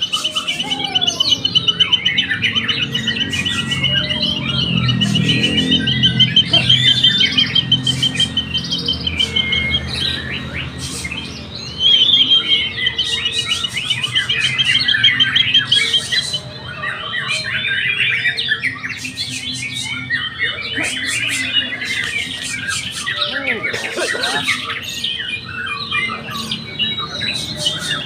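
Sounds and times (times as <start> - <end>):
birds singing trills and whistles: 0.0 - 28.0.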